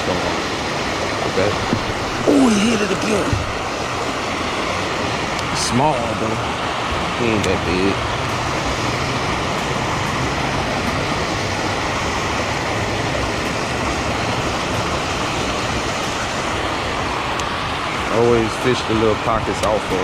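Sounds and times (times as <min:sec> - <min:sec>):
rush of fast-running water: 0:00.0 - 0:20.0.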